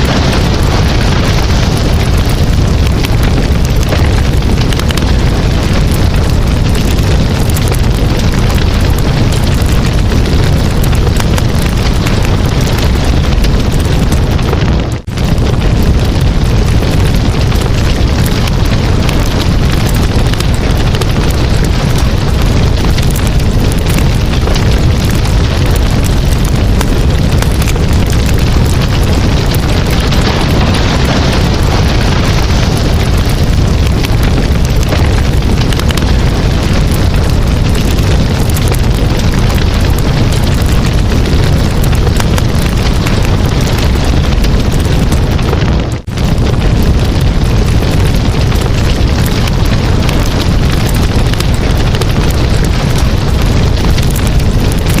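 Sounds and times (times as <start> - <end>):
campfire crackling and popping: 0.0 - 55.0
low rumble: 0.0 - 55.0.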